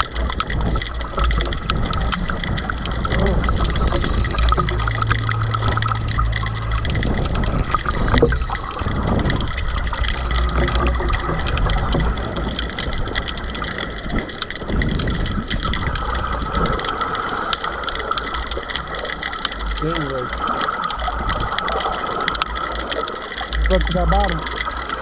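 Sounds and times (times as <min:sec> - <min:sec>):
small clicks and crackles: 0:00.0 - 0:25.0
water sloshing and gurgling: 0:00.0 - 0:25.0.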